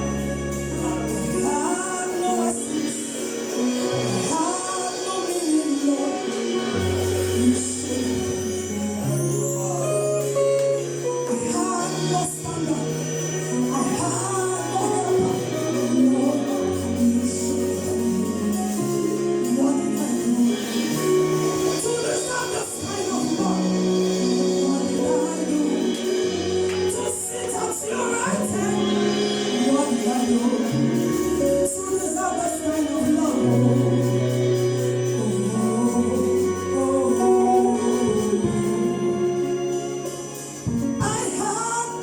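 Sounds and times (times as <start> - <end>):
bass line: 0.0 - 4.7, 6.5 - 42.0
choir music: 0.0 - 42.0
instrumental backing: 0.0 - 42.0.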